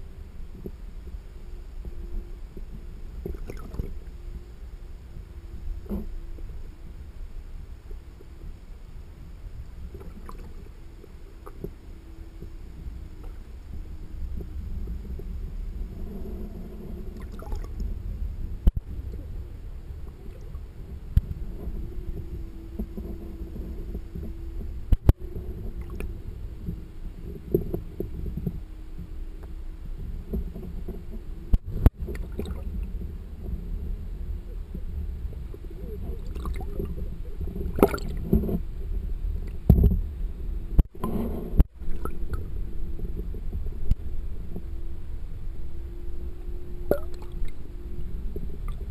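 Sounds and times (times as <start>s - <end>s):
faint steady hum: 0.0s - 48.9s
muffled underwater rumble: 0.0s - 48.9s.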